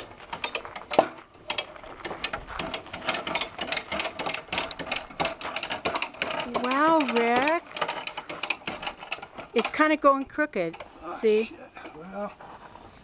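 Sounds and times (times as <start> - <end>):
pulley mechanism clicking: 0.3 - 10.9.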